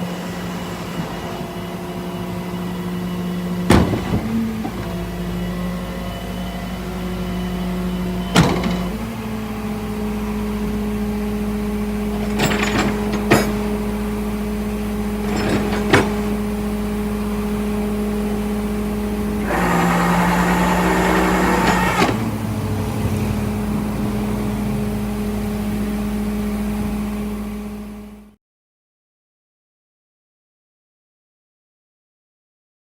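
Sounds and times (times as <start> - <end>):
motor vehicle humming: 0.0 - 28.3.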